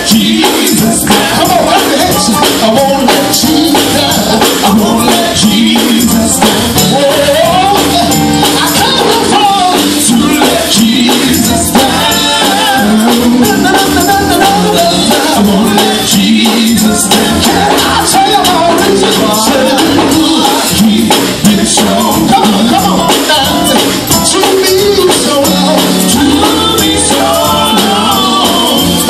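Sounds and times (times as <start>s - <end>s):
gospel band playing: 0.0s - 29.0s
tambourine shaking: 0.0s - 29.0s.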